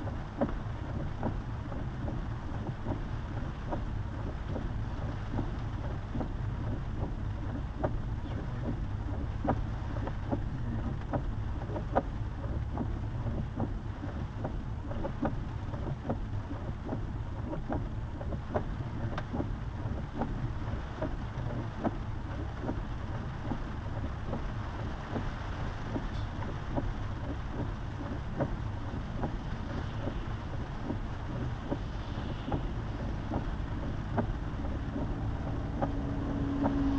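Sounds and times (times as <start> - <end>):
regular ticking: 0.0 - 36.9
road and engine rumble: 0.0 - 36.9.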